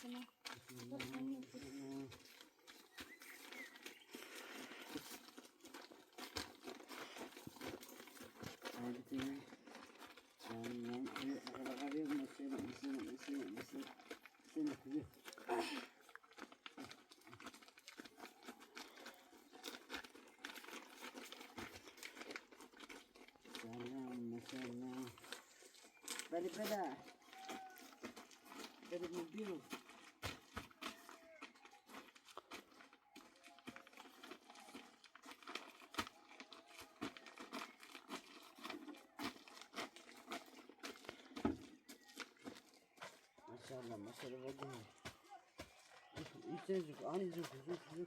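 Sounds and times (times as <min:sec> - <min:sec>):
faint crackling and rustling: 0:00.0 - 0:48.0.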